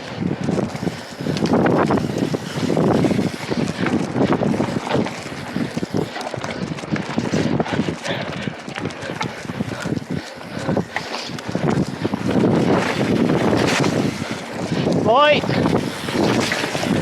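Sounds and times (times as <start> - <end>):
bike tyre noise: 0.0 - 17.0
wind noise on microphone: 0.0 - 17.0.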